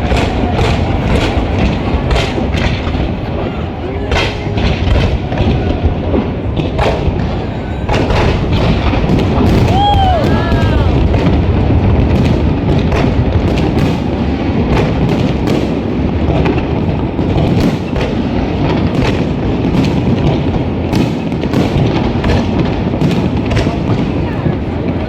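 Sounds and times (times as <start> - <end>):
fireworks bangs and cracks: 0.0 - 25.0.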